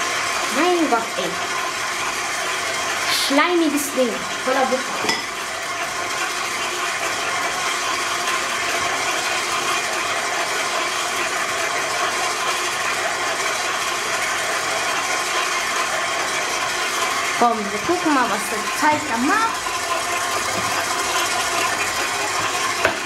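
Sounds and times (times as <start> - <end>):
electric stand mixer running: 0.0 - 23.0.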